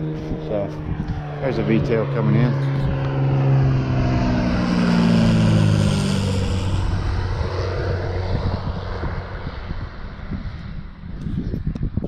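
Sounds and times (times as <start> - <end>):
propeller plane passing overhead: 0.0 - 12.0.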